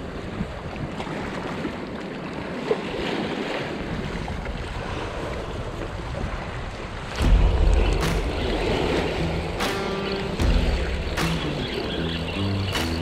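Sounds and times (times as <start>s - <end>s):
wind buffeting microphone: 0.0s - 2.0s, 2.6s - 13.0s
sea water lapping against concrete: 0.0s - 13.0s.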